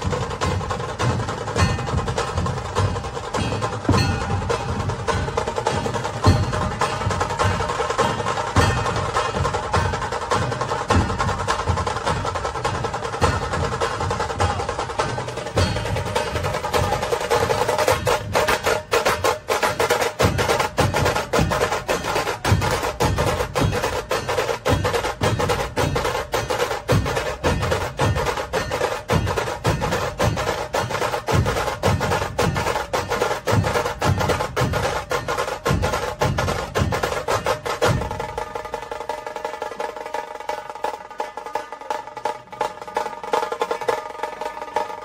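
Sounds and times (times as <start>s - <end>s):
procession drums playing: 0.0s - 45.0s.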